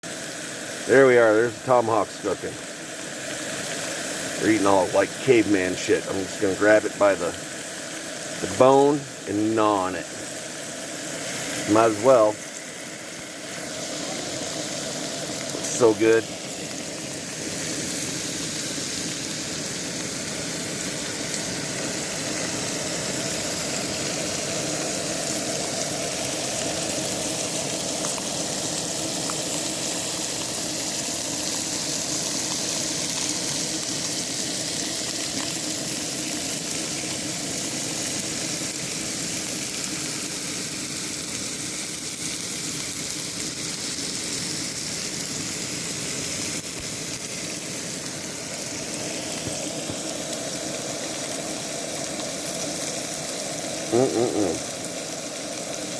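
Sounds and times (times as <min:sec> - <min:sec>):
steaks sizzling: 0:00.0 - 0:55.9.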